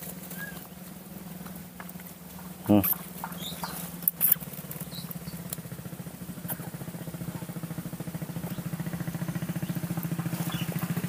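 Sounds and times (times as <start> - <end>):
small motorcycle engine: 0.0 - 11.0.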